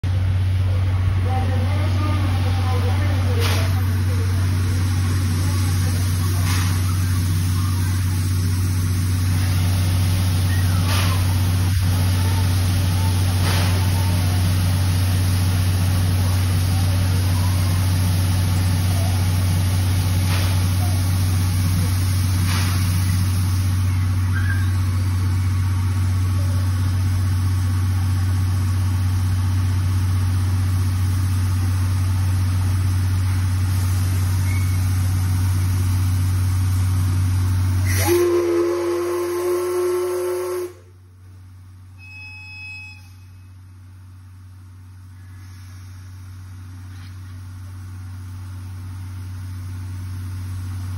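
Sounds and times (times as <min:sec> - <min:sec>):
steam locomotive humming and hissing: 0:00.1 - 0:41.1, 0:42.0 - 0:50.9.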